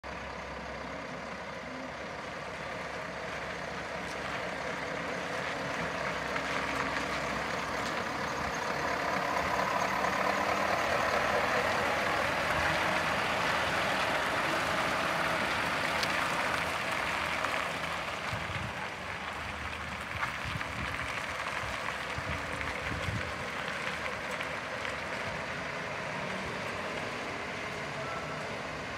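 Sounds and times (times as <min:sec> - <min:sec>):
diesel truck driving past: 0:00.0 - 0:28.9.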